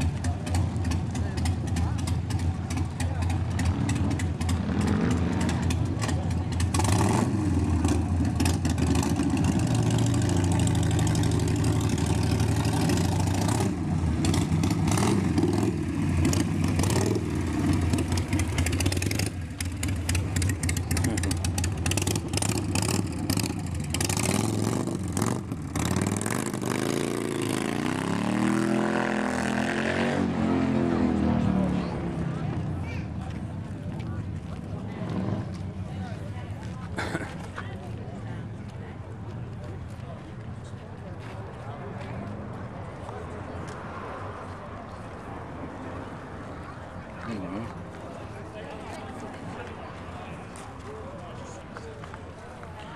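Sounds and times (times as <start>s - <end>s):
motorcycle engines rumbling: 0.0s - 52.9s.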